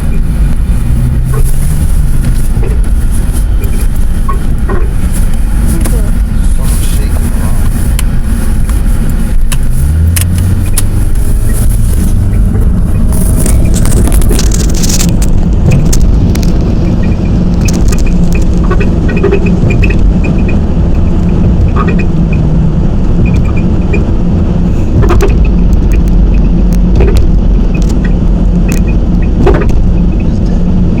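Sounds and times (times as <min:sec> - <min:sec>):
car engine low rumble: 0:00.0 - 0:31.0.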